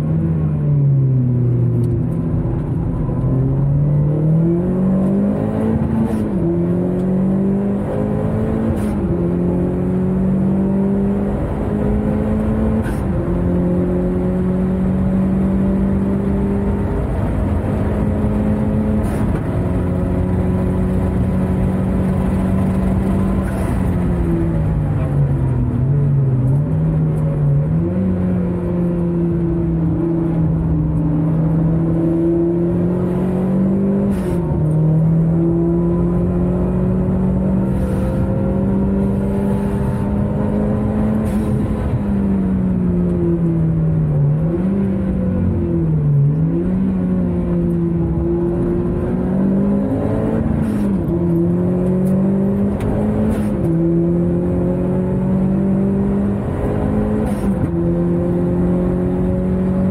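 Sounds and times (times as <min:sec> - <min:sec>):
car engine revving high: 0:03.1 - 0:25.4, 0:26.4 - 0:59.9.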